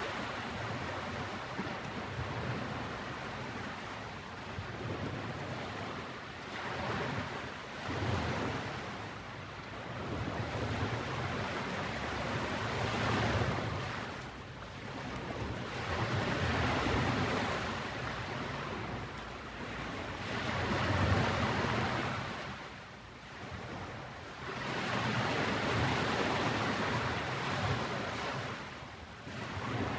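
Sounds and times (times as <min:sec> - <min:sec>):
ocean waves breaking on beach: 0:00.0 - 0:29.9.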